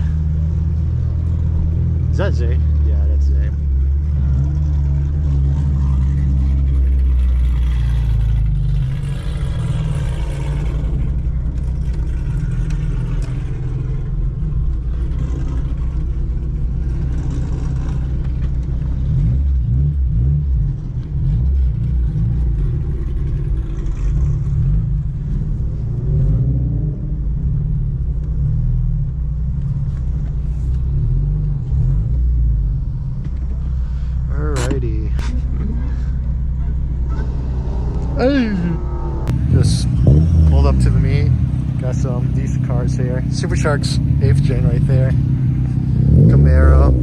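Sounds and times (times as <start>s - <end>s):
car engine and exhaust drone: 0.0s - 47.0s.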